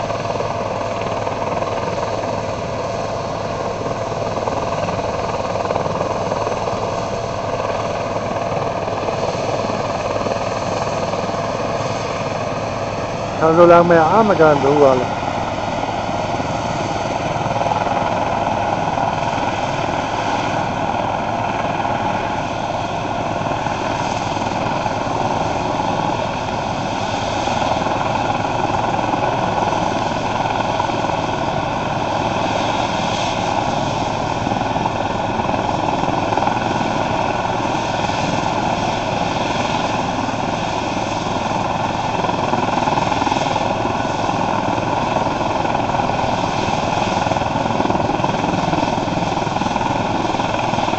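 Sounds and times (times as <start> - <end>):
helicopter turbine whine and rotor: 0.0 - 50.9.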